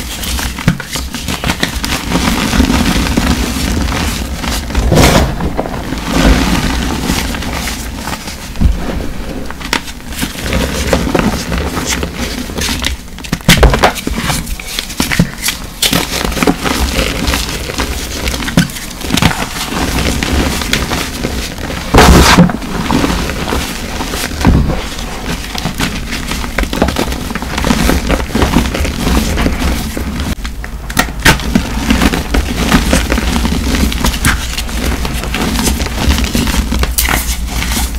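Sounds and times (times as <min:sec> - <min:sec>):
hands crushing chalk blocks: 0:00.0 - 0:08.3, 0:09.5 - 0:37.9.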